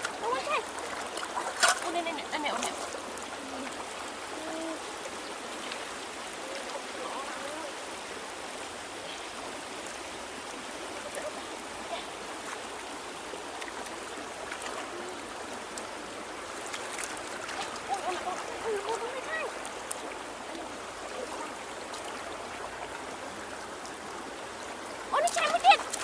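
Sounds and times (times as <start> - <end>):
river water flowing: 0.0 - 26.0.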